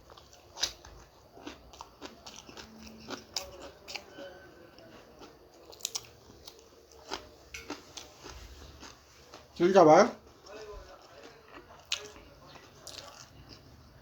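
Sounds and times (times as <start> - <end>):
person chewing crunchy food: 0.0 - 9.6, 10.5 - 14.0.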